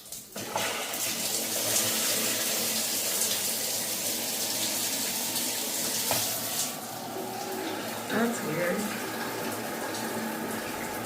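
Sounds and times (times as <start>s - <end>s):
shower water spraying and splashing: 0.0s - 11.0s.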